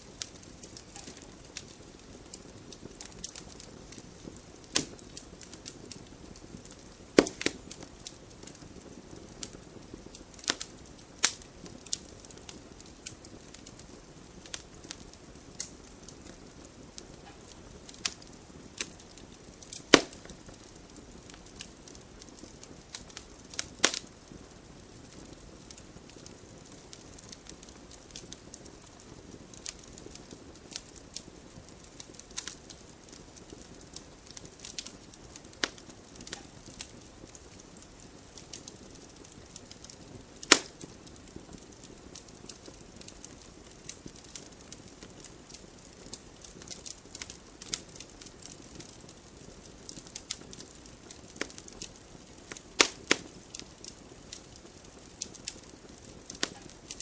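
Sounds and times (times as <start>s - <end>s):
faint rush of flame: 0.0s - 57.0s
wood fire crackling and popping: 0.0s - 57.0s.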